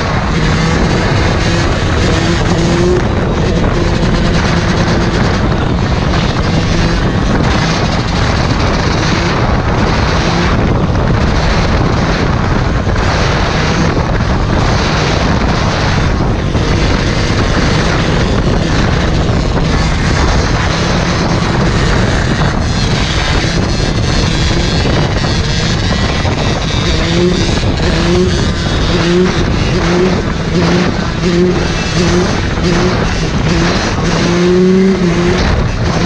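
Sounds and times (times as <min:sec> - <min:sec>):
dirt bike engine running: 0:00.0 - 0:36.0
wind rush on microphone: 0:00.0 - 0:36.0.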